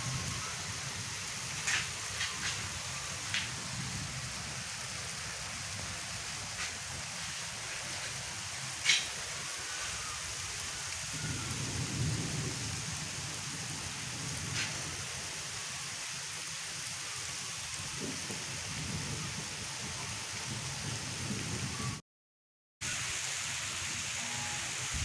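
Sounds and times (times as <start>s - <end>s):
steady rain falling: 0.0s - 22.0s, 22.8s - 25.0s.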